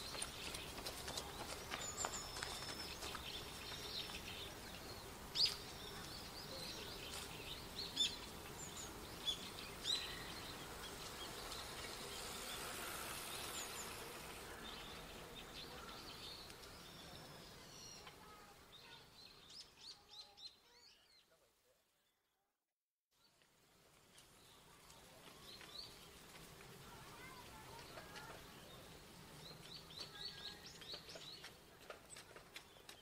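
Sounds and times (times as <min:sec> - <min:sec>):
faint outdoor hiss: 0:00.0 - 0:22.6, 0:23.2 - 0:33.0.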